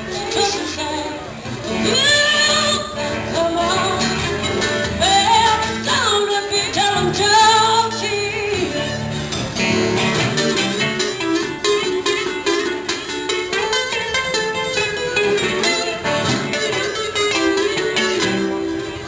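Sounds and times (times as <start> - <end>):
guitar accompaniment: 0.0 - 19.0.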